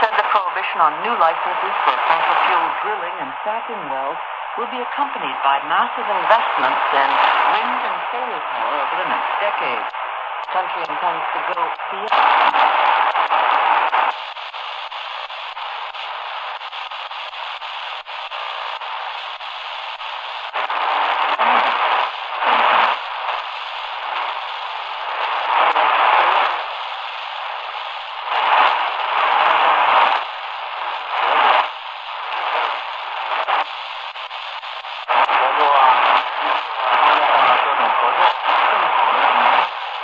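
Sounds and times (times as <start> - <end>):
shortwave radio static: 0.0 - 40.0.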